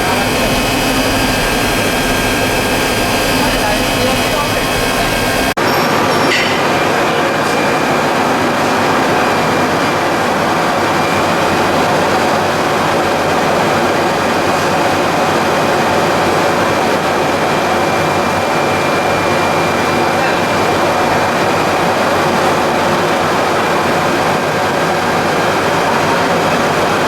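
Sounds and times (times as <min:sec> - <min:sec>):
industrial machinery running: 0:00.0 - 0:27.0.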